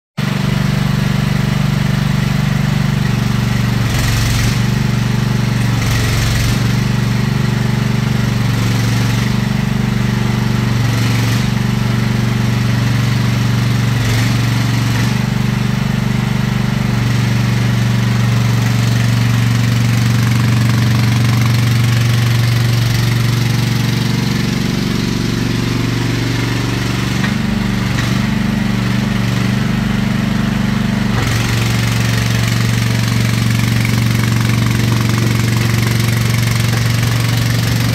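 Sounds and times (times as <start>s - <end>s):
excavator engine running: 0.2s - 37.9s.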